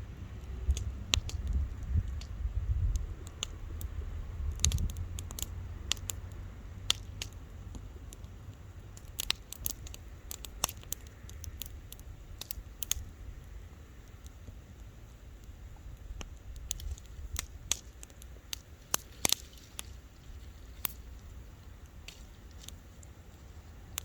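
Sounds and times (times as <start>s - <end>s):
low steady rumble: 0.0s - 24.0s
wood fire crackling and popping: 0.0s - 24.0s.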